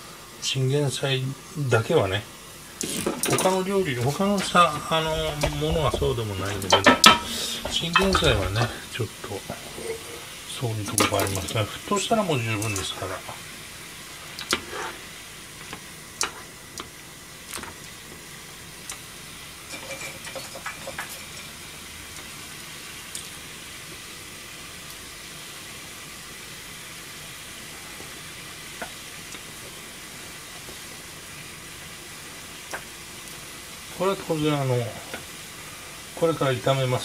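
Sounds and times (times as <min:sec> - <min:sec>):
water boiling: 0:00.0 - 0:37.0.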